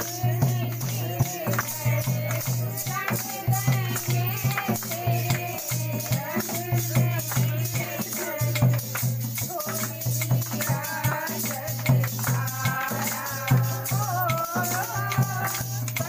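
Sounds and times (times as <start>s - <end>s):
group singing devotional song: 0.0s - 16.0s
hand drum beat: 0.0s - 16.0s
rhythmic hand clapping: 0.0s - 16.0s.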